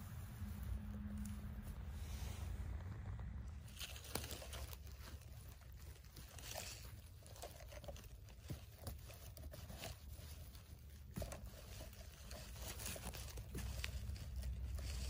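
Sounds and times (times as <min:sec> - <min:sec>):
moss and twigs rustling: 0:00.0 - 0:15.0.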